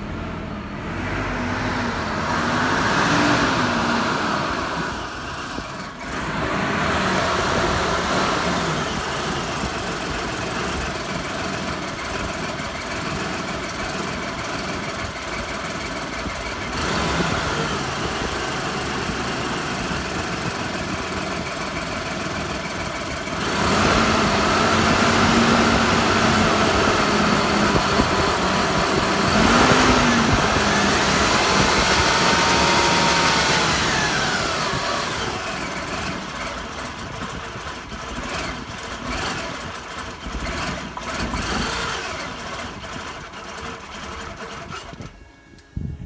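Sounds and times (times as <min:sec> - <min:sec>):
car engine running rough: 0:00.0 - 0:46.0.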